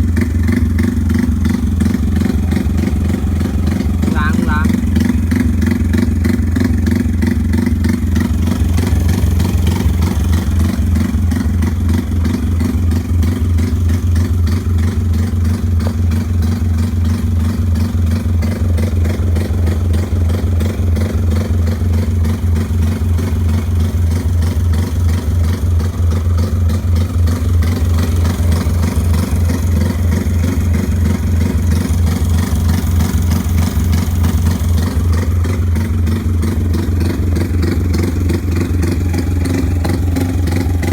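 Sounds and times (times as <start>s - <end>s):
small motorcycle engine running: 0.0s - 40.9s.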